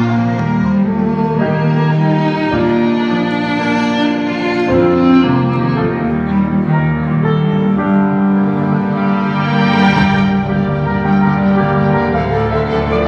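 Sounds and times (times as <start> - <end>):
orchestral strings playing chords: 0.0 - 13.0.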